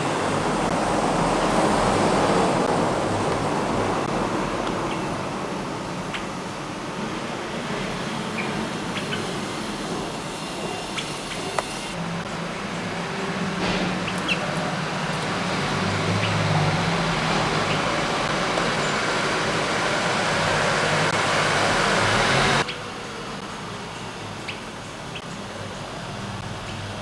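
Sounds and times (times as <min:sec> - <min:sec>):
vehicle engine hum: 0:00.0 - 0:24.4
road rush: 0:00.0 - 0:27.0.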